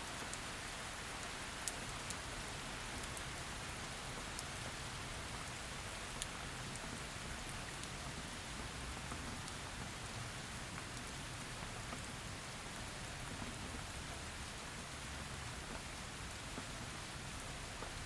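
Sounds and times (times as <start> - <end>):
sharp raindrops hitting close: 0.0 - 18.0.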